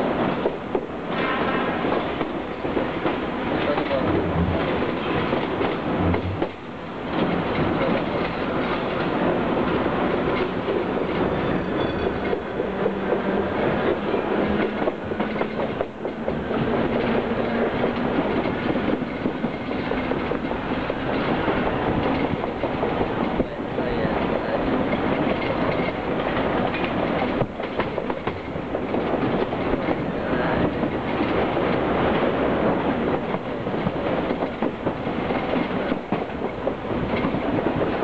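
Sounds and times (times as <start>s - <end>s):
train wheels clattering over rails: 0.0s - 38.0s.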